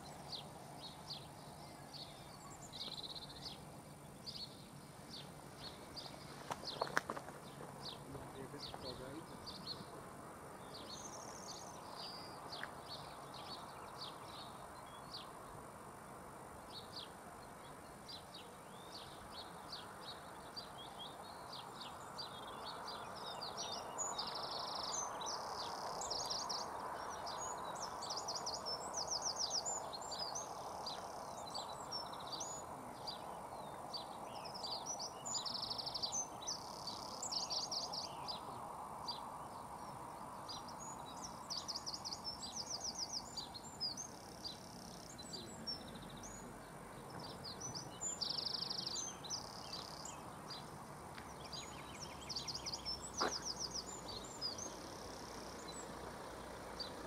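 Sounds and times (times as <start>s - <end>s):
outdoor background noise: 0.0s - 57.0s
small birds chirping and trilling: 0.0s - 57.0s.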